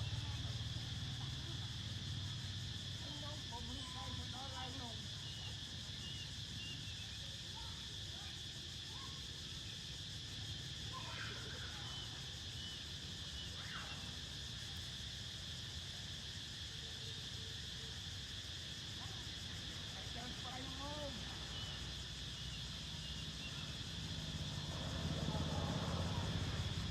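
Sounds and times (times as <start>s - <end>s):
insects buzzing: 0.0s - 26.9s.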